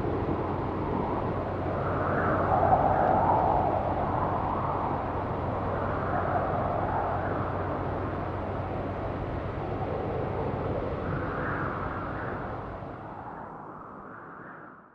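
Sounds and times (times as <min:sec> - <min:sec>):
distant city traffic hum: 0:00.0 - 0:14.0.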